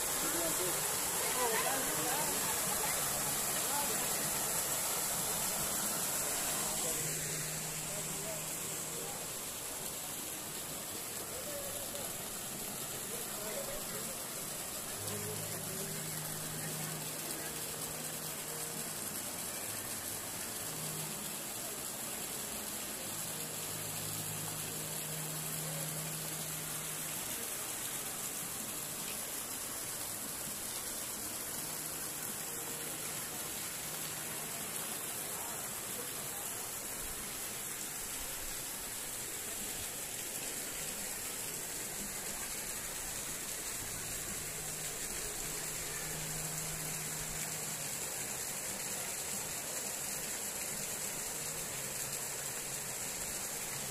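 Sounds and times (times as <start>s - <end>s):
steady rushing hiss: 0.0s - 53.9s.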